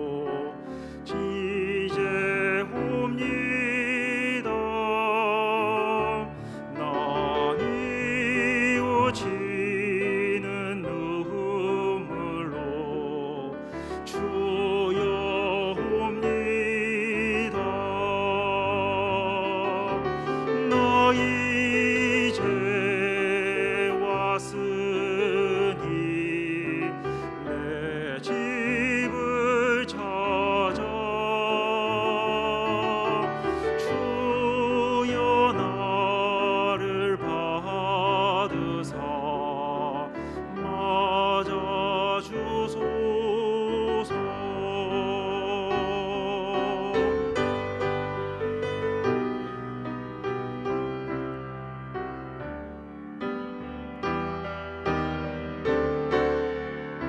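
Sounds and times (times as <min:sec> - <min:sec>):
tenor singing a hymn: 0:00.0 - 0:51.0
piano accompaniment: 0:00.0 - 0:57.0.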